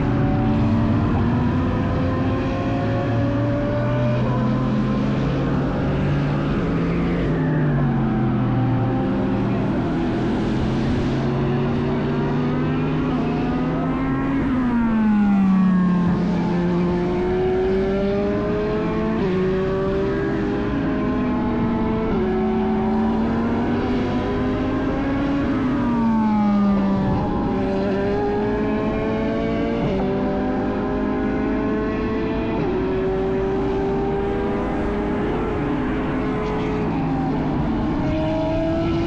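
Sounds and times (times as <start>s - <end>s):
race cars passing by: 0.0s - 39.0s.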